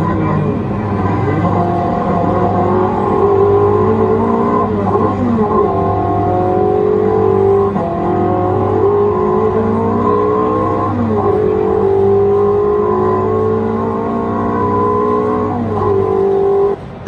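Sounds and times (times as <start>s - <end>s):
recorded rally car engine over loudspeaker: 0.0s - 17.0s.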